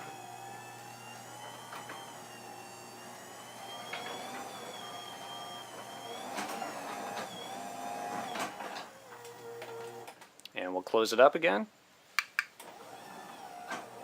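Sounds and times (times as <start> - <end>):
garage door opener running: 0.0 - 10.2, 12.6 - 14.0.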